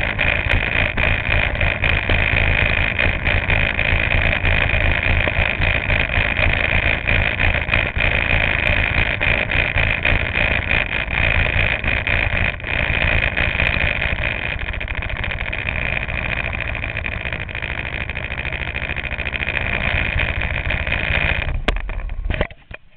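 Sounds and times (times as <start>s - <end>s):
go-kart engine idling: 0.0s - 22.9s
high whine: 0.0s - 22.9s.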